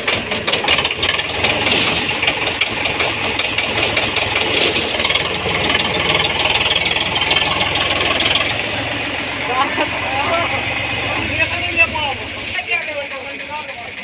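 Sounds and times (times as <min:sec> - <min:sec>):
diesel tractor engines running: 0:00.0 - 0:14.0.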